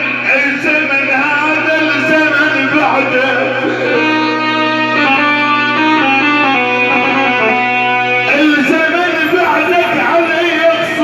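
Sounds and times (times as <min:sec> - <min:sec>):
live band instrumental music: 0:00.0 - 0:11.0
low drone: 0:00.0 - 0:11.0.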